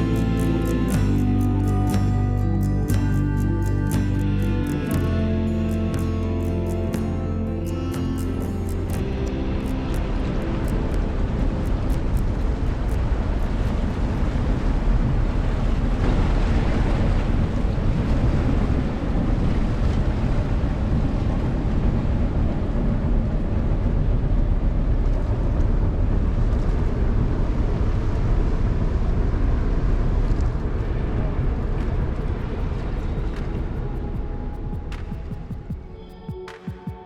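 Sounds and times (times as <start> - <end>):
wind on microphone: 0.0 - 37.0.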